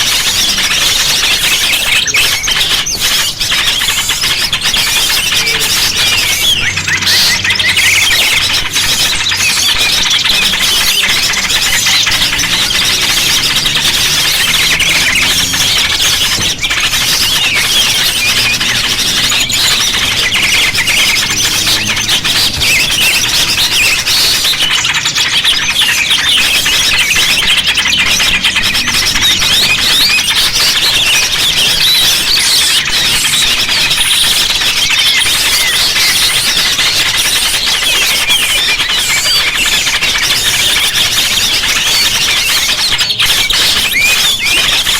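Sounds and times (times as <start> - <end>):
small birds chirping and twittering: 0.0 - 44.9.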